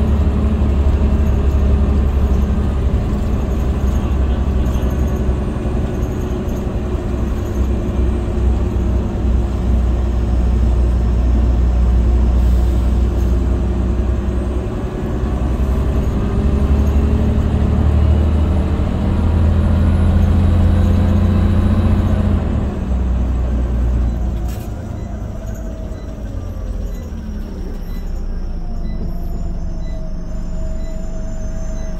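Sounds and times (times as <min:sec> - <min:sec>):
bus engine running: 0:00.0 - 0:31.9.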